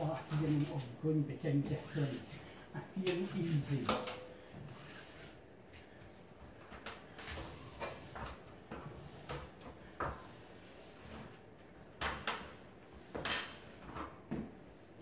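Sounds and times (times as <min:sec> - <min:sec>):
cloth rubbing wallpaper: 0:00.0 - 0:14.2.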